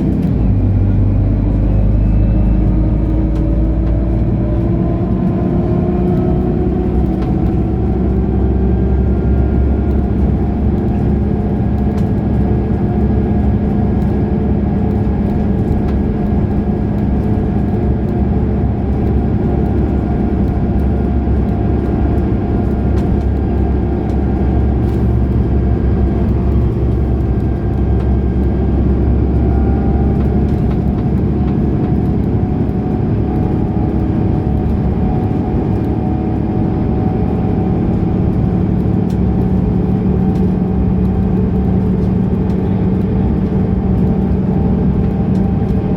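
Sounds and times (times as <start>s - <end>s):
bus engine running: 0.0s - 45.9s.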